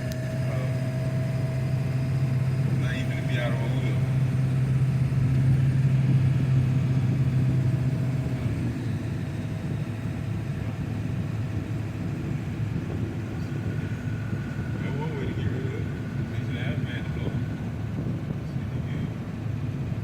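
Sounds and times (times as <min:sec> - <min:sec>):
road rumble: 0:00.0 - 0:20.0
vehicle engine drone: 0:00.0 - 0:20.0.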